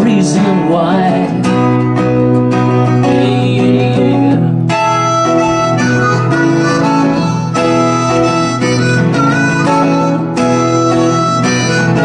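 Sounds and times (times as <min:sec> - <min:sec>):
strummed acoustic guitar: 0:00.0 - 0:12.0
harmonica melody: 0:01.3 - 0:12.0.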